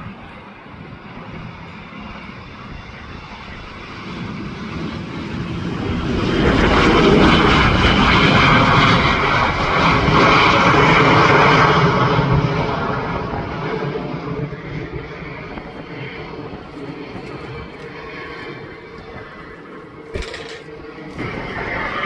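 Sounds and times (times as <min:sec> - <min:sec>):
jet engines roaring with whine: 0:00.0 - 0:22.0.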